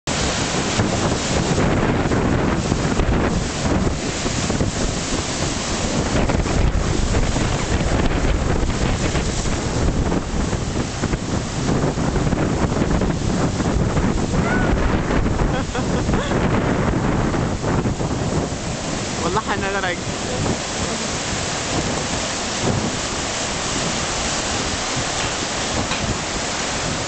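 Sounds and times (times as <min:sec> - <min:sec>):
surf breaking on rocks: 0:00.1 - 0:27.0
wind buffeting microphone: 0:00.1 - 0:27.0.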